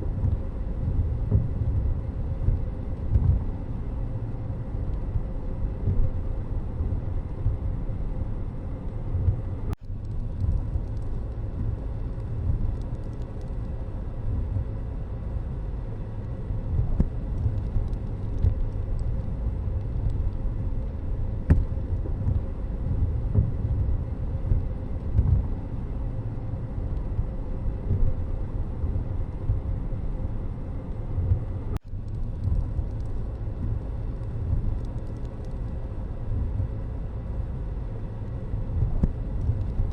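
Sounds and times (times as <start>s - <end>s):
vehicle rumble with road noise: 0.0s - 39.9s
wind noise: 0.0s - 39.9s.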